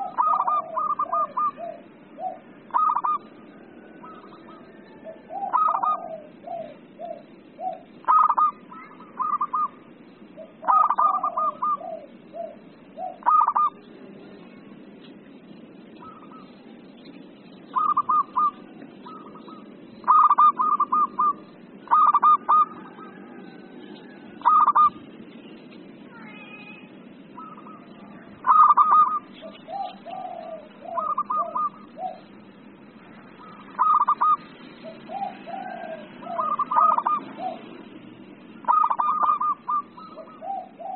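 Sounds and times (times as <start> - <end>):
dove cooing: 0.0 - 14.7, 15.4 - 17.0, 17.6 - 25.2, 27.2 - 40.9
low background hiss: 0.0 - 40.9.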